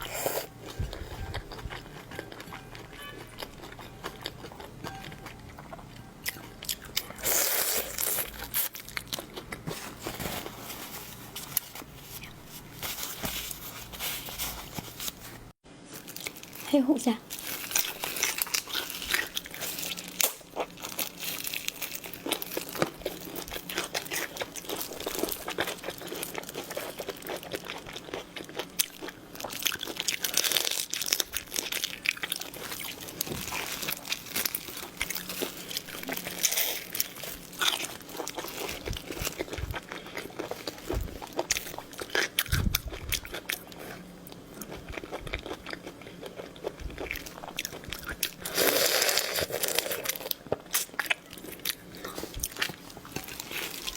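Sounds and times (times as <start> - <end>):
crunching and chewing food: 0.0 - 53.9.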